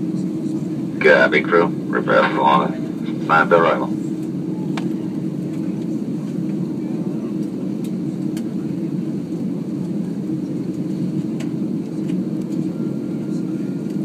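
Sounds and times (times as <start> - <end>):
low airliner cabin hum: 0.0 - 14.0.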